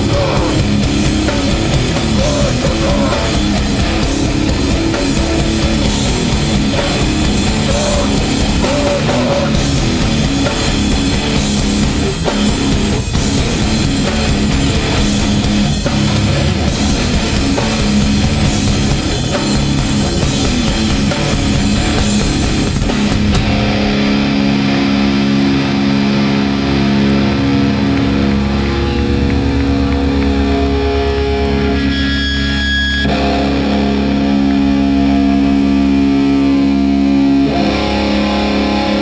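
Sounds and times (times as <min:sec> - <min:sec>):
hardcore band playing live: 0:00.0 - 0:39.0
held guitar chords ringing: 0:00.0 - 0:39.0.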